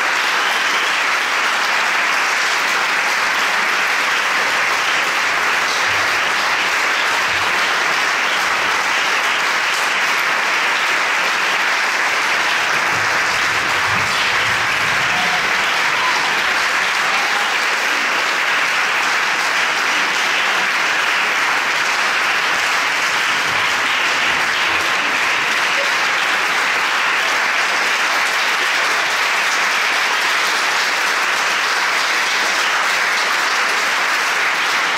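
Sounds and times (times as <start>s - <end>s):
audience applauding: 0.0s - 34.9s.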